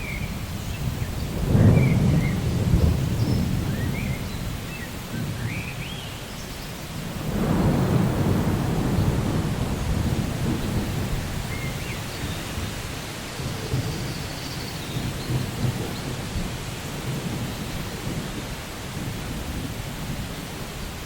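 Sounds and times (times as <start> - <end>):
rolling thunder: 0.0 - 5.7, 7.0 - 20.3
steady rain: 0.0 - 21.0.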